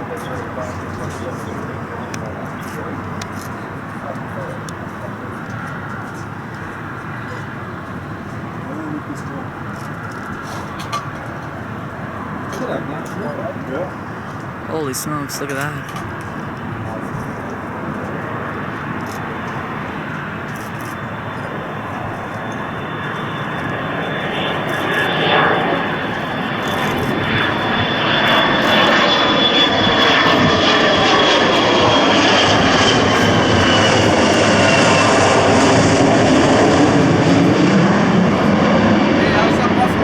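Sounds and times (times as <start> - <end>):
high jet whine: 0.0 - 40.0
jet engines on approach: 0.0 - 40.0.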